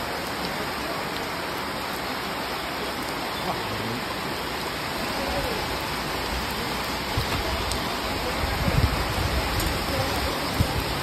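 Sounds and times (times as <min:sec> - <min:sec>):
rain falling on water: 0:00.0 - 0:11.0.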